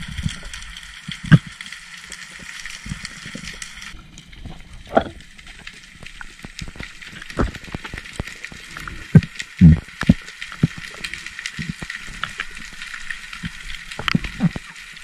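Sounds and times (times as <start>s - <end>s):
underwater crackle of fine clicks: 0.0s - 15.0s.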